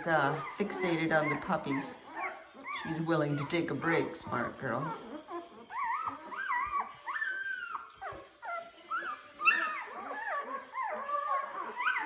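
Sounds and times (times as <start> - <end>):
puppies whimpering and squealing: 0.0 - 12.0.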